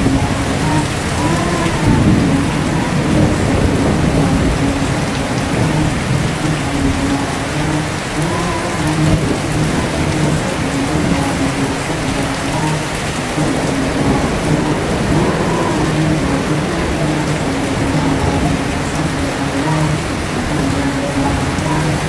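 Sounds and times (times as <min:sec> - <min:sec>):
heavy rain: 0:00.0 - 0:22.0
person chanting: 0:00.0 - 0:22.0.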